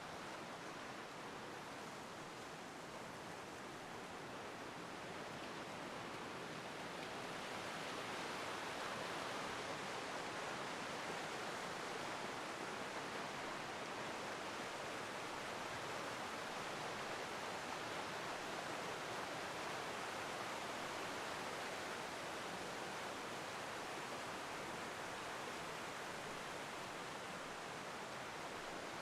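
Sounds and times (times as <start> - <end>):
river rushing over waterfalls: 0.0 - 29.0.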